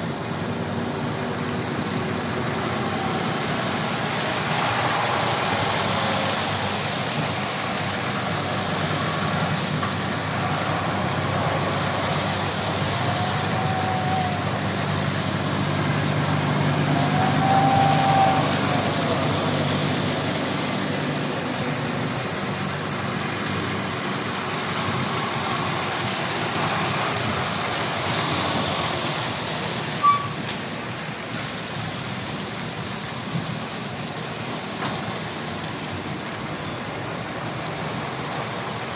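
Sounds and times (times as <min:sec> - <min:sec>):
lorries driving past: 0:00.0 - 0:38.9
tyre noise on wet road: 0:00.0 - 0:38.9.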